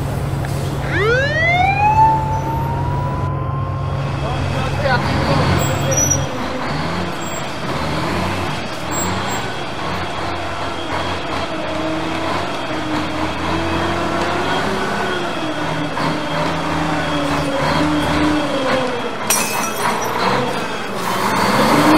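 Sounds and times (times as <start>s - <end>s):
road noise: 0.0s - 21.9s.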